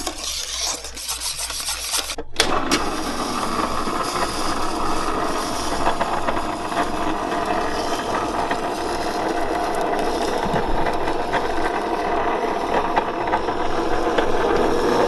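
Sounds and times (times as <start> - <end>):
ice cream maker motor hum: 2.2 - 15.0.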